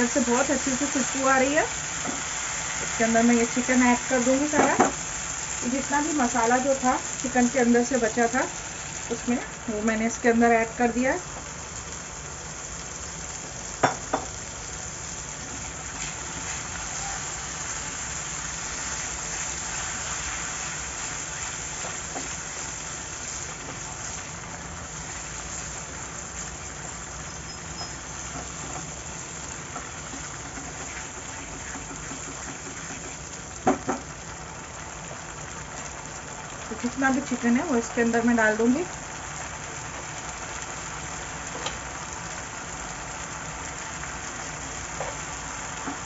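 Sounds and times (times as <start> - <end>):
chicken sizzling in a pan: 0.0 - 46.0.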